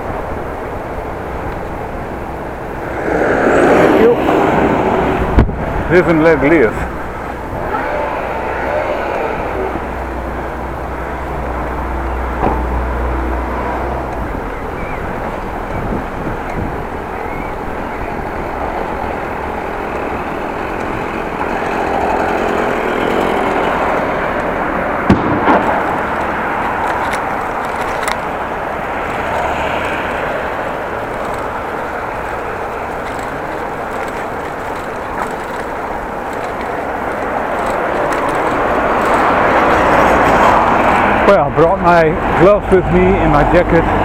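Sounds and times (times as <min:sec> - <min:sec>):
bicycle wind and road rumble: 0:00.0 - 0:44.0.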